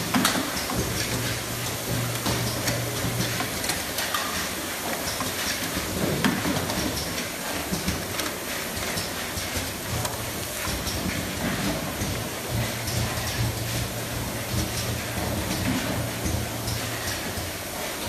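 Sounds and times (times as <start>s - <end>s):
machine clicks and knocks: 0.0s - 17.6s
bottle filling machine rushing: 0.0s - 18.0s.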